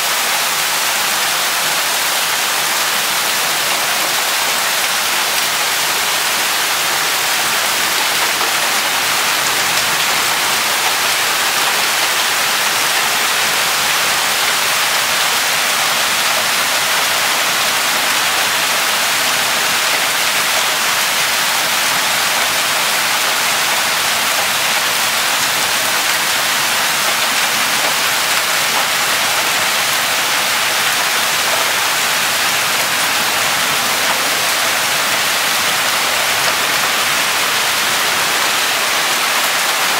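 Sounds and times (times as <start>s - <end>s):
hail and heavy rain: 0.0s - 39.9s.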